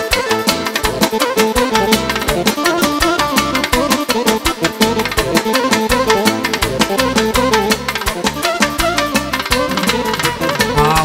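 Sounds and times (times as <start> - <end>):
live band playing dance music: 0.0 - 11.0.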